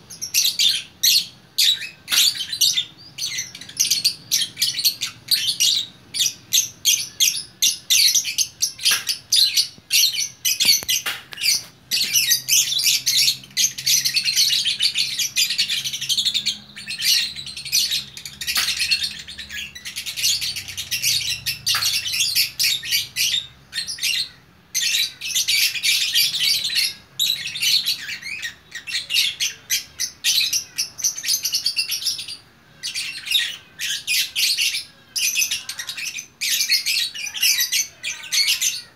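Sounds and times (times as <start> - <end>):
lovebird chirping: 0.0 - 38.9.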